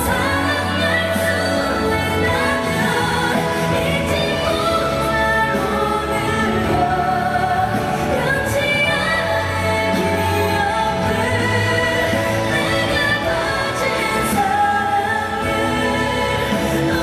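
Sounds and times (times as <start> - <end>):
woman singing pop song: 0.0 - 17.0.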